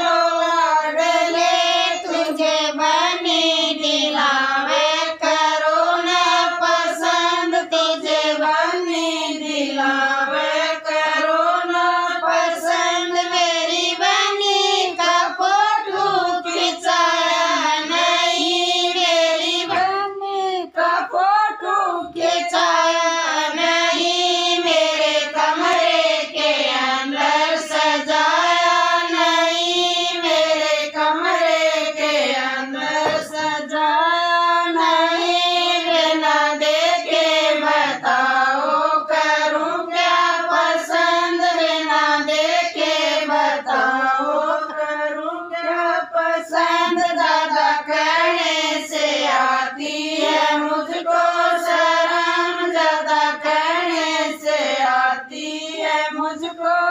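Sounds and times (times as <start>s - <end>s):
women singing in unison: 0.0s - 56.9s.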